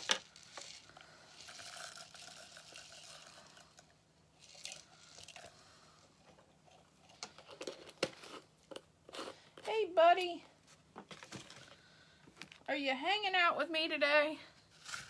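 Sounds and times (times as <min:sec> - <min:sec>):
rustling and crinkling of craft materials: 0:00.0 - 0:12.7, 0:14.6 - 0:15.0.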